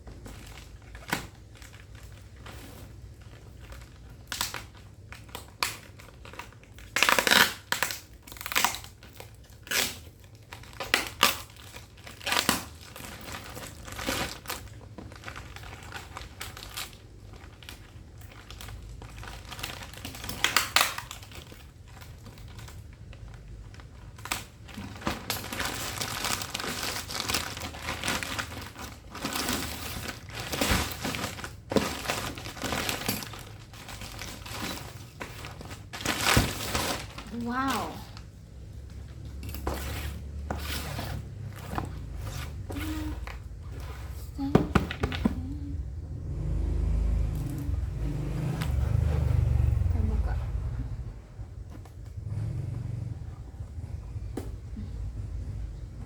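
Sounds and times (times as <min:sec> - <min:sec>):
packaging crinkling and rustling: 0:00.0 - 0:45.8.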